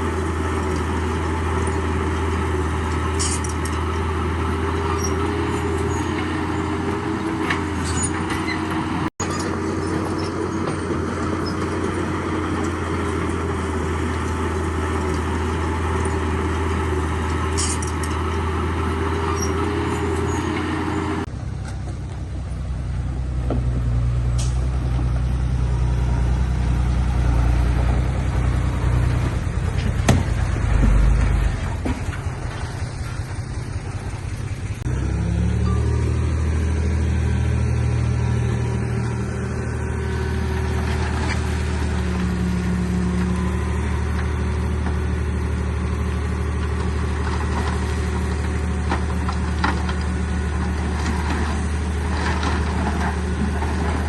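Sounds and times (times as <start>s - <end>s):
deep loud engine: 0.0s - 54.0s
diesel construction machinery running: 0.0s - 54.0s.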